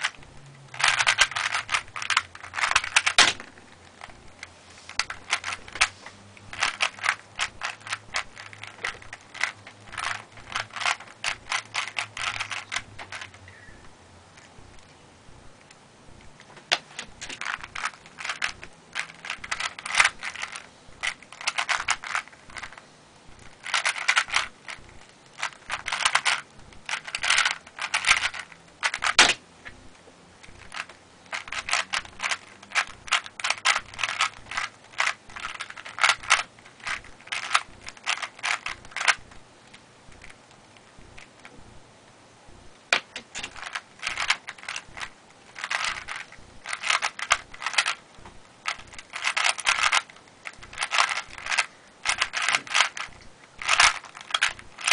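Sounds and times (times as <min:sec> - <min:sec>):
plastic puzzle cube clicking: 0:00.0 - 0:04.3, 0:04.9 - 0:13.4, 0:15.6 - 0:22.8, 0:23.4 - 0:29.8, 0:30.4 - 0:41.5, 0:42.9 - 0:54.9.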